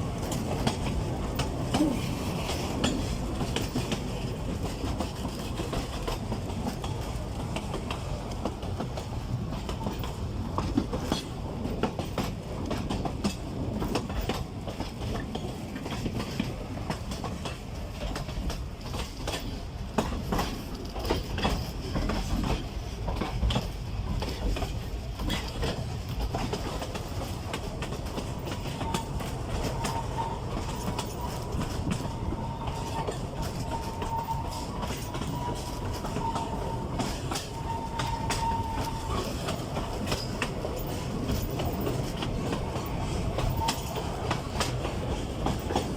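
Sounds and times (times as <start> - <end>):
train rumbling on track: 0.0 - 45.9.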